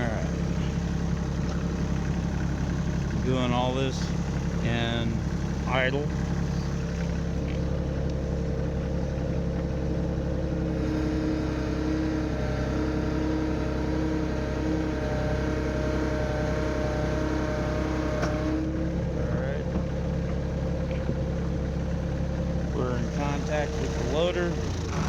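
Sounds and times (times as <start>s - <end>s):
diesel tractor engine idling: 0.0s - 25.0s.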